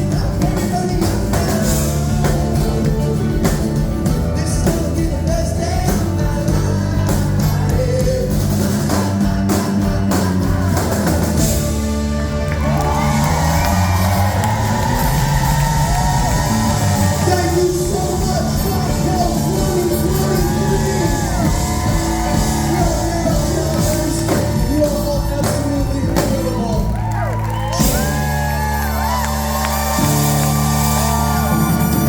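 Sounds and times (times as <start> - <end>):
person singing: 0.0 - 29.0
bass: 0.0 - 32.0
crowd in a hall: 0.0 - 32.0
drums: 0.0 - 32.0
horn section: 0.0 - 32.0.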